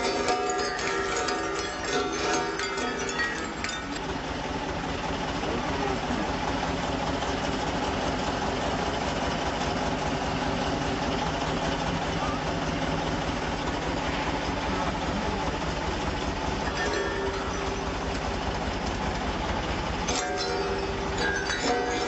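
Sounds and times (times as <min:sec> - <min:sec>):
diesel engine pulsing: 0:00.0 - 0:22.0.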